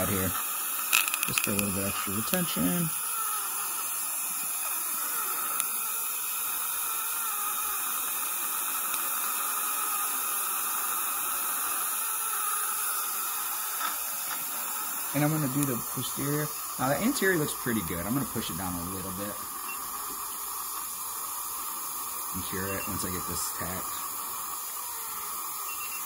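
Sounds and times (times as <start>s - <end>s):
dental suction hiss: 0.0s - 26.0s.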